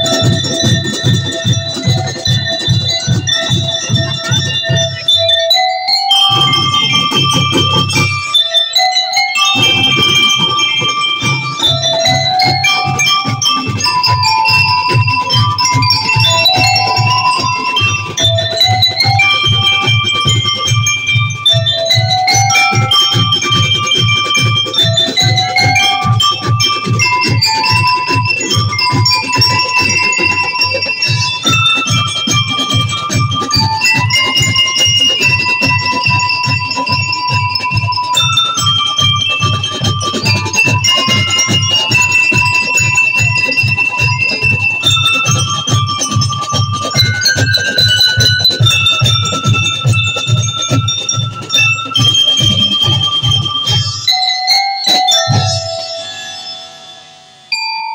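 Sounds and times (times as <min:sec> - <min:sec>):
bass and snare drum beat: 0:00.0 - 0:56.1
lyre and mallet percussion melody: 0:00.0 - 0:57.9.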